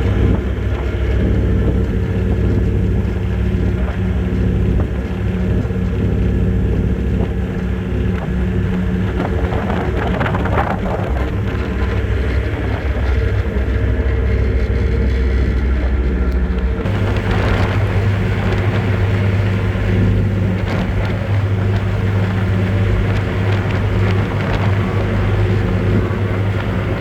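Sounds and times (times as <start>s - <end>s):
ferry engines droning: 0.0s - 27.0s
wind and water rushing: 0.0s - 27.0s.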